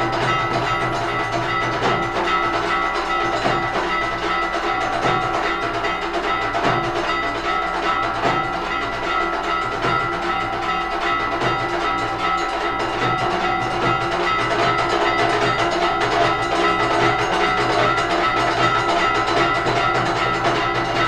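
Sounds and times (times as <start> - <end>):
continuous drumming: 0.0 - 21.0
many bells ringing: 0.0 - 21.0.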